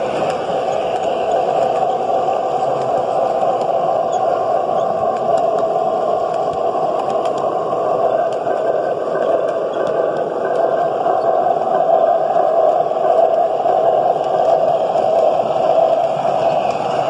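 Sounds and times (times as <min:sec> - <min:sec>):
model train rolling past: 0:00.0 - 0:17.0.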